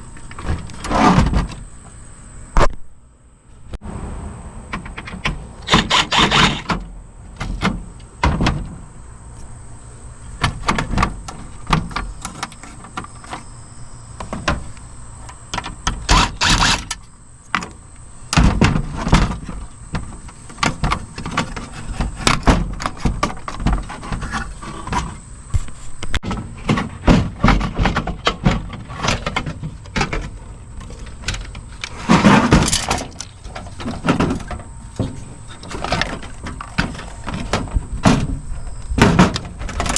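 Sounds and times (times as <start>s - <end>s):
tool and parts clattering: 4.7s - 8.8s, 10.3s - 13.5s, 14.2s - 25.3s, 26.2s - 39.9s.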